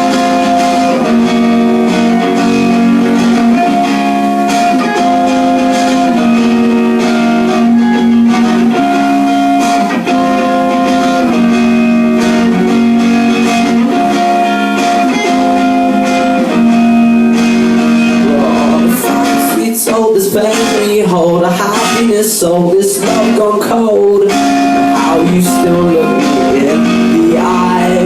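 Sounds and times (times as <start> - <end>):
guitar chords: 0.0 - 28.0.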